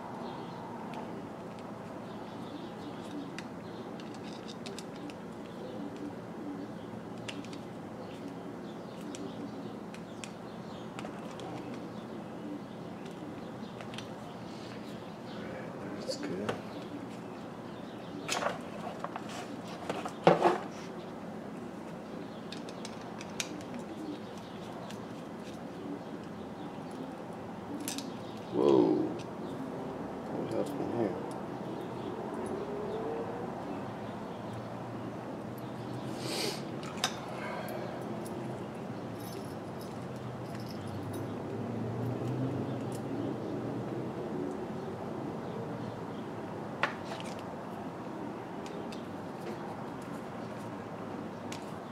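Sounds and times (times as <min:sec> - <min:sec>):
low background hum: 0:00.0 - 0:43.2.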